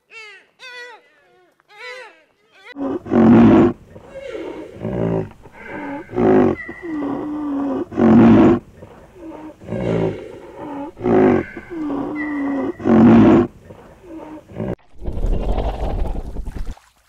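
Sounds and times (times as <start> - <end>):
animal calling: 0.0 - 14.8
harsh animal call: 1.8 - 16.3.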